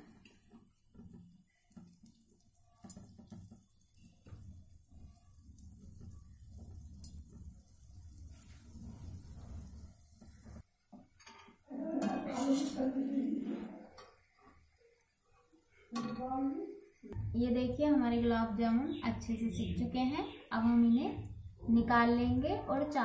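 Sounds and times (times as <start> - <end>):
dough frying in hot oil: 0.0 - 23.0.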